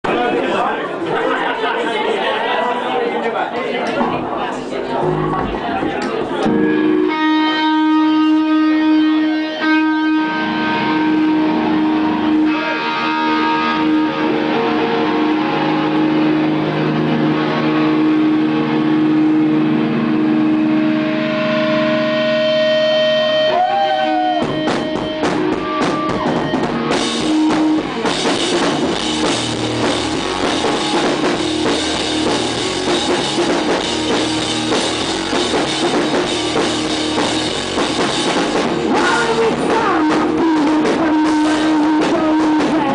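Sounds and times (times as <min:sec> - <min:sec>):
rock band playing live: 0:03.8 - 0:42.9
ringing guitar and bass notes: 0:04.9 - 0:42.9
drum kit: 0:05.0 - 0:42.9.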